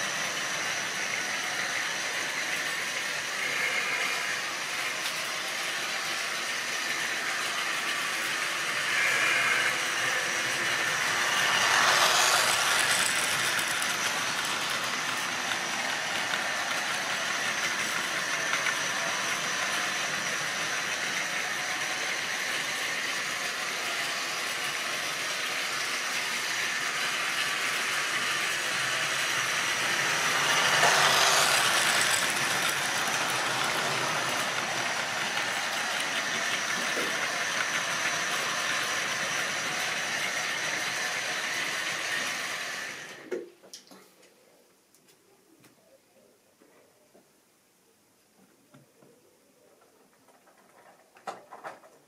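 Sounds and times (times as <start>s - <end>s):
model train wheels rattling: 0.0s - 42.4s.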